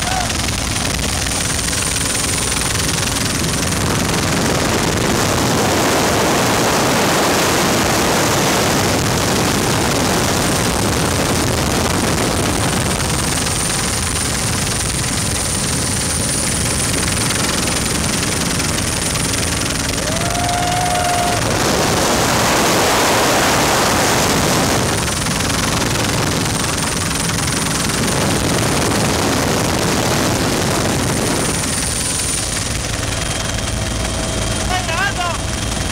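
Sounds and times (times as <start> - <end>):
helicopter rotor and engine rush: 0.0 - 35.9.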